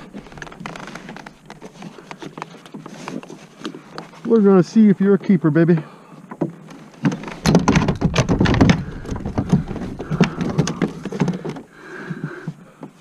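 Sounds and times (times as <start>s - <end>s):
knocks and rattles on plastic kayak: 0.0s - 4.4s, 5.6s - 13.0s.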